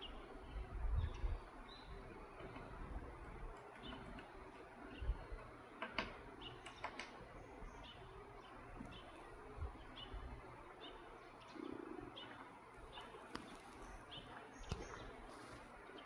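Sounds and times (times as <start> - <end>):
woodpecker calling: 0.0 - 16.0.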